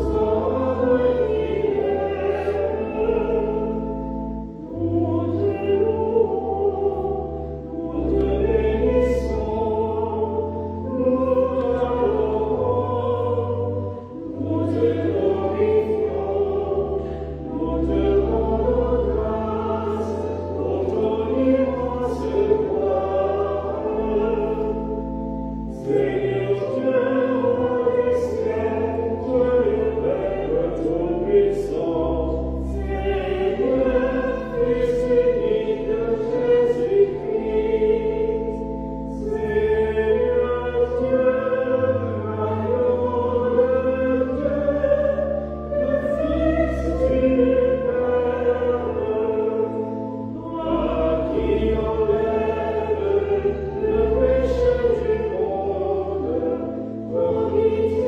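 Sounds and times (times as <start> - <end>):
choir singing sacred music: 0.0 - 58.0.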